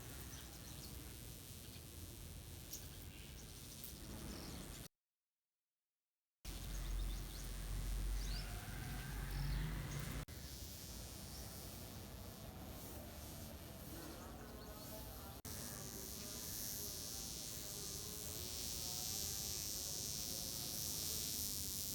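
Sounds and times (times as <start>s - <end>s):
wasp wings buzzing: 0.0s - 4.9s, 6.5s - 21.9s.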